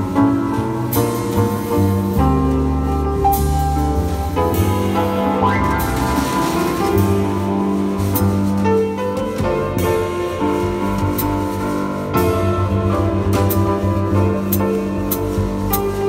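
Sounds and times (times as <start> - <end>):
jazz piano trio playing: 0.0 - 16.0.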